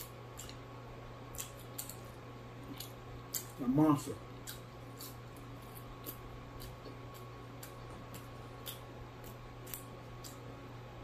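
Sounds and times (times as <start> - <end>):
person chewing food: 0.0 - 3.7, 4.3 - 10.8.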